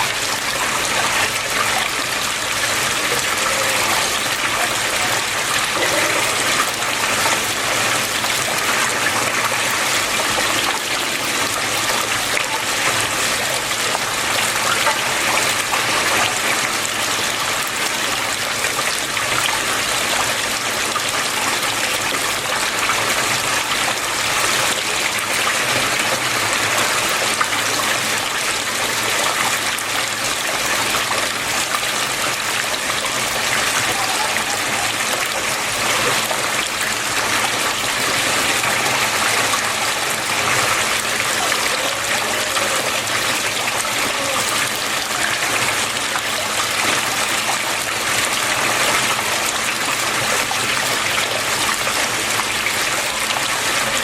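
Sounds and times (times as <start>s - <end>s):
water flowing in a stream: 0.0s - 54.0s.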